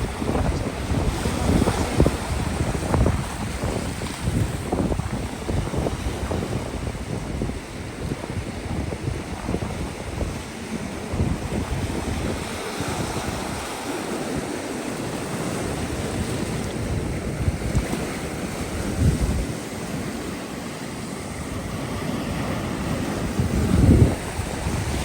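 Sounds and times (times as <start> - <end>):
ocean surf on a beach: 0.0 - 25.0
wind buffeting microphone: 0.0 - 25.0.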